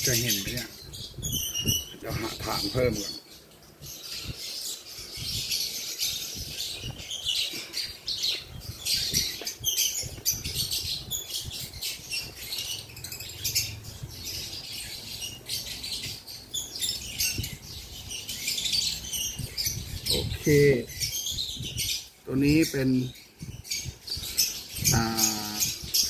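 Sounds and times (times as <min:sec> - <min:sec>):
chicks cheeping: 0:00.0 - 0:26.0.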